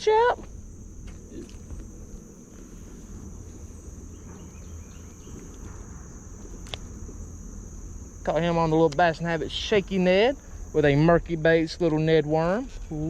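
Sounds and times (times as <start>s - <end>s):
insects chirring: 0.0s - 13.0s
low rumble: 0.4s - 11.9s.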